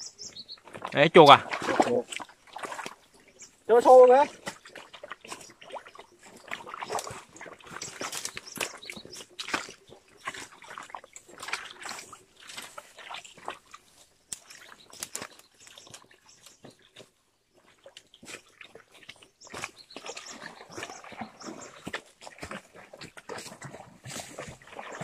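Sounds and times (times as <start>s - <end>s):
boots splashing through stream: 0.0s - 25.0s.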